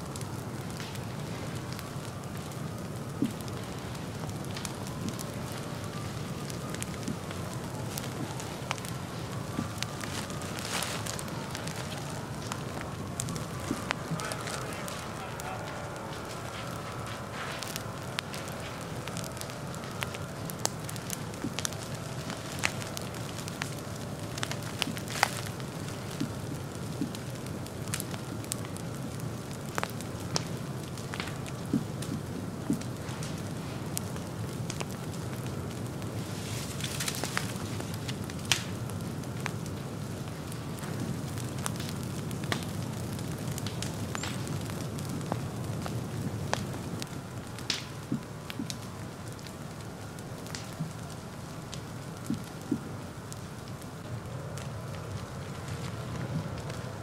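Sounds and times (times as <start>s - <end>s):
fire crackling in dry leaves: 0.0s - 57.0s.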